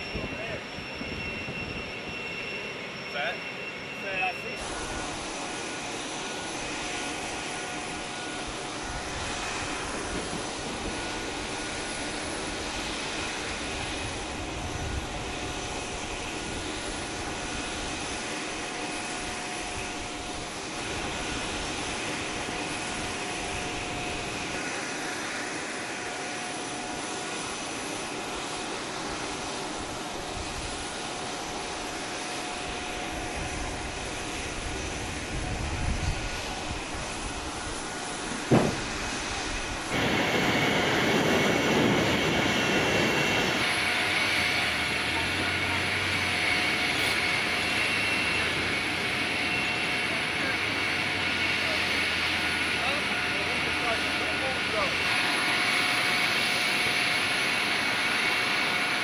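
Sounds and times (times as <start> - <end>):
jet turbine rush with whining: 0.0 - 59.0.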